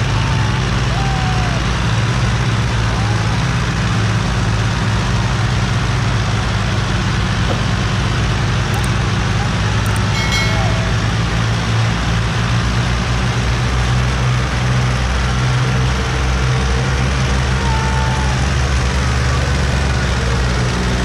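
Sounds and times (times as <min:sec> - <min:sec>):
diesel tractor engines droning: 0:00.0 - 0:21.0.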